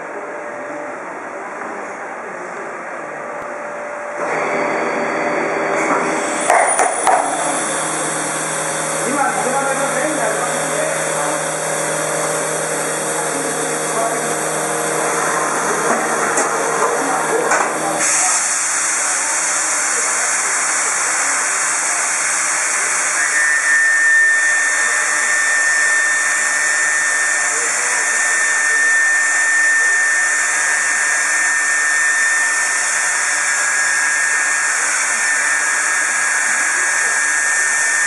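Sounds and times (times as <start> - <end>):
thin steady whine: 0.0 - 38.0
router cutting plastic hiss: 6.1 - 38.0.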